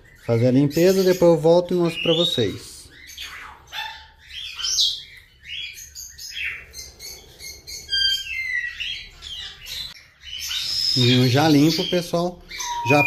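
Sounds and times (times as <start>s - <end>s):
small parrots chirping: 0.0s - 13.0s.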